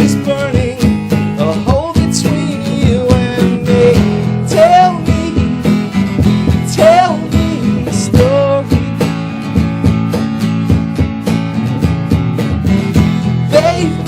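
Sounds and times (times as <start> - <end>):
band playing a song: 0.0 - 14.0
strummed acoustic guitar: 0.0 - 14.0
sliding melody line: 0.1 - 14.0.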